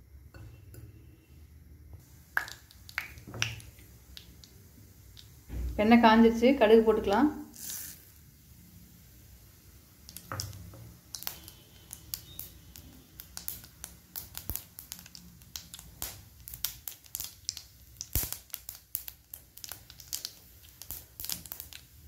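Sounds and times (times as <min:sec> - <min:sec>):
seeds popping in hot oil: 0:01.9 - 0:22.0.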